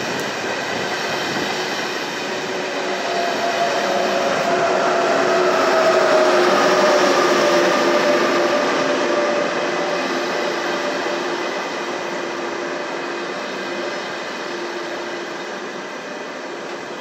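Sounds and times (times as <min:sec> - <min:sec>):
train rolling past: 0:00.0 - 0:17.0
train whine: 0:00.0 - 0:17.0.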